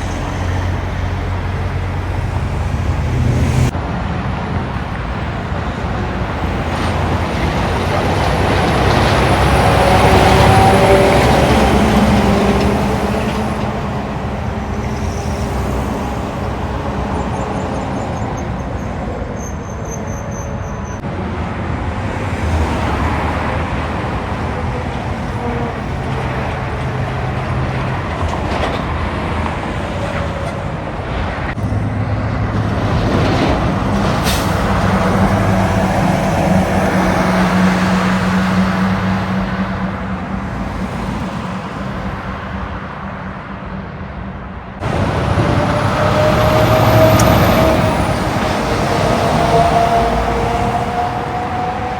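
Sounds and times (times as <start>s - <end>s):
diesel trucks driving past: 0.0s - 51.9s
steady traffic noise: 0.0s - 51.9s.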